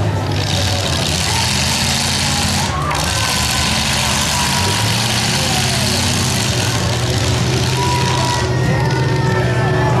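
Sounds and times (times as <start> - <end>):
car engines droning: 0.0 - 10.0.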